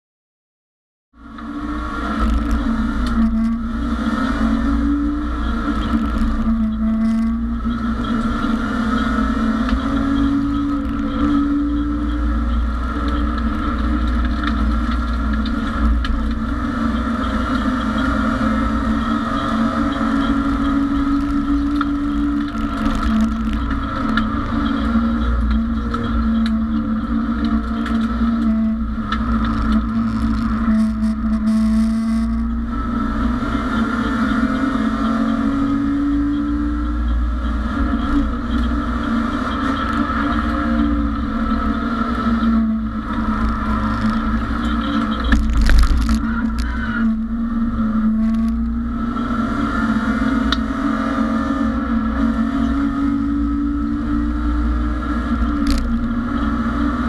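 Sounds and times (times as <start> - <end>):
road noise rumble: 1.1 - 57.0
race car engine from inside: 1.2 - 57.0.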